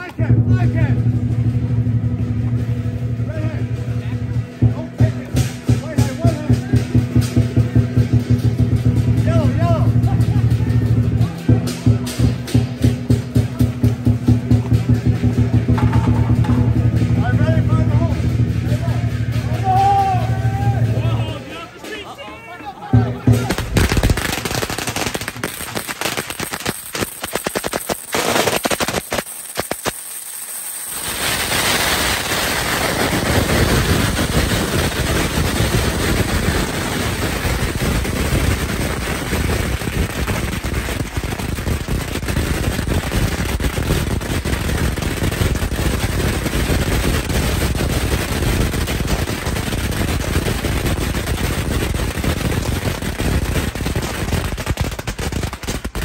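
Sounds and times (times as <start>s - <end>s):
firecrackers exploding: 0.0s - 21.9s, 22.9s - 56.0s.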